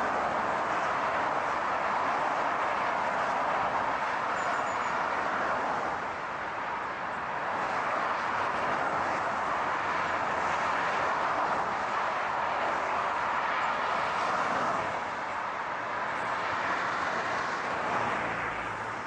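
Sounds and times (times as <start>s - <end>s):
car road noise hiss: 0.0s - 19.0s.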